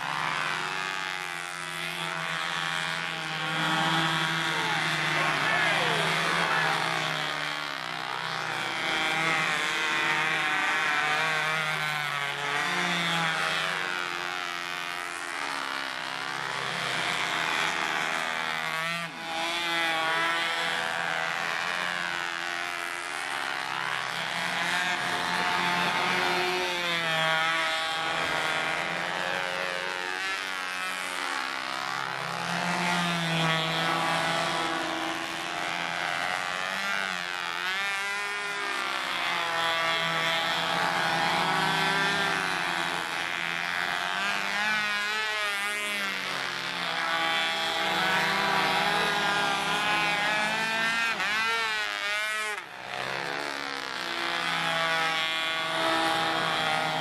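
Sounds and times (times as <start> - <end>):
model plane engines buzzing: 0.0 - 57.0.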